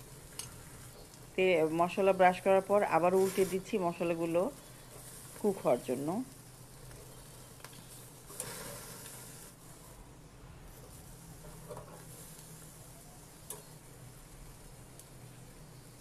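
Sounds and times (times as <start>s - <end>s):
chicken sizzling on a grill: 0.0s - 16.0s.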